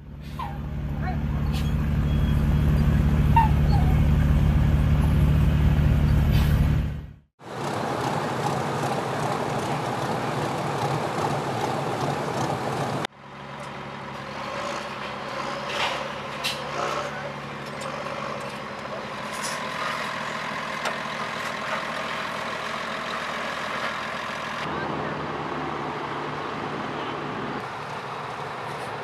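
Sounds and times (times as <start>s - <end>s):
bulldozer engine humming: 0.0s - 29.0s
truck diesel engine running: 0.0s - 29.0s.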